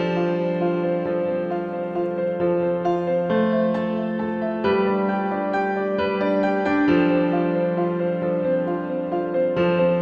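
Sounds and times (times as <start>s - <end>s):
held keyboard chords: 0.0s - 10.0s.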